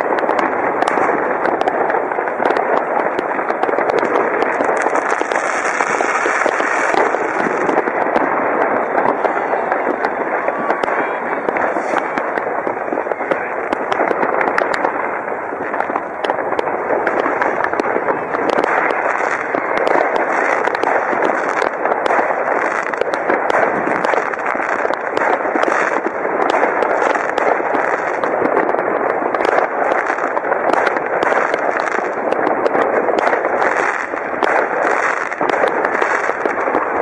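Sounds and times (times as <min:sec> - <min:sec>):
fireworks and firecrackers crackling: 0:00.0 - 0:37.0.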